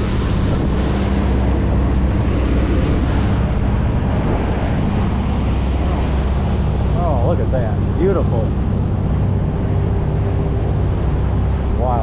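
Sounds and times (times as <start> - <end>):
boat engine droning: 0.0 - 12.0
water rushing past: 0.0 - 12.0
wind buffeting microphone: 0.0 - 12.0.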